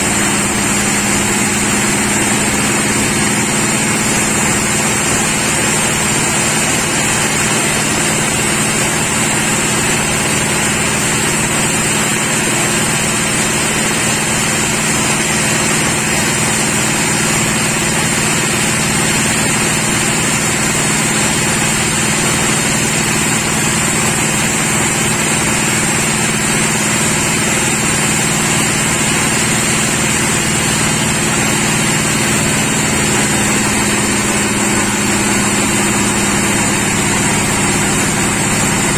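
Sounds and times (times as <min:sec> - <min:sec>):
machinery high whine: 0:00.0 - 0:38.9
sawmill machinery hum: 0:00.0 - 0:38.9.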